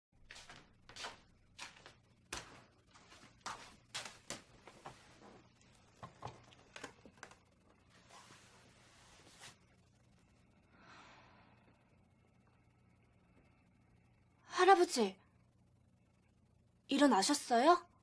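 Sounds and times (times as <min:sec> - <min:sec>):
faint low hum: 0:00.2 - 0:18.0.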